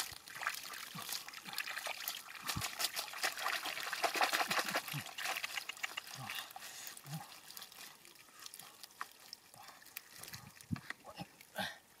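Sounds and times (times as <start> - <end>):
small splashes: 0.0 - 11.5
wet mud squelching: 0.0 - 11.7
muddy water dripping and trickling: 0.0 - 12.0.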